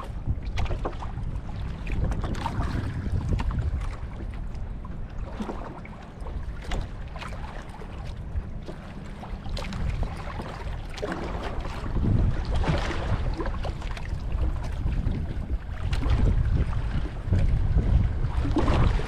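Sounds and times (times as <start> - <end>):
waves slapping against hull: 0.0 - 19.0
wind rumbling on microphone: 0.0 - 19.0.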